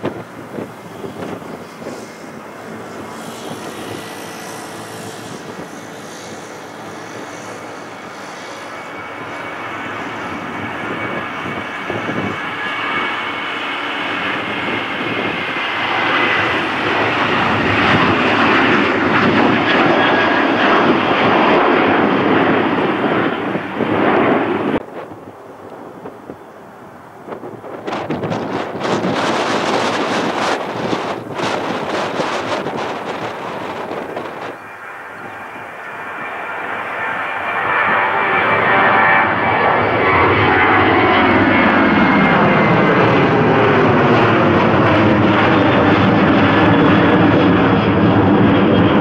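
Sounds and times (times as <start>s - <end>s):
high fan whine: 0.0s - 49.0s
jet engines at takeoff: 0.0s - 49.0s.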